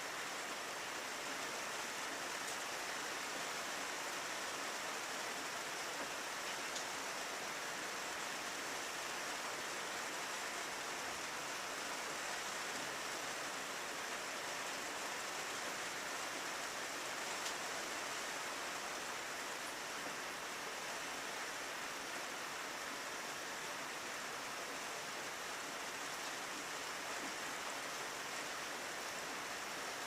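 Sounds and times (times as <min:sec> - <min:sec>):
rain on a window pane: 0:00.0 - 0:30.0.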